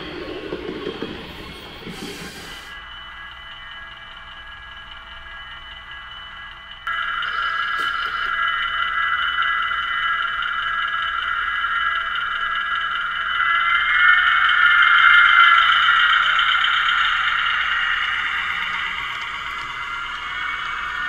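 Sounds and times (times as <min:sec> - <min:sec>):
buzzy locomotive engine sound: 0:00.0 - 0:21.0.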